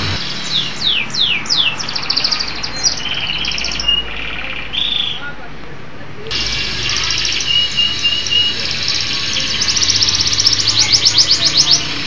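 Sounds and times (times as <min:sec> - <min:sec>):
canary singing: 0:00.0 - 0:05.4, 0:06.3 - 0:12.0.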